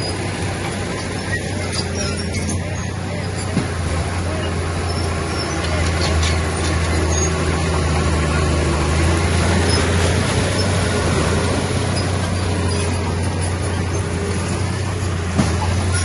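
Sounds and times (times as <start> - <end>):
heavy diesel engine droning: 0.0 - 16.0.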